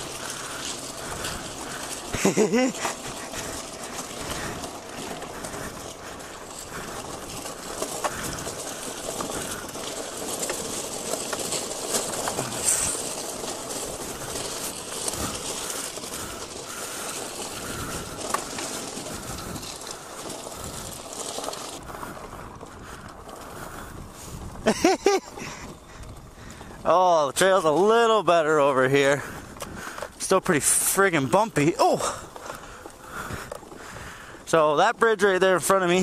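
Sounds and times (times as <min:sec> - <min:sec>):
bike rattling over gravel: 0:00.0 - 0:36.0.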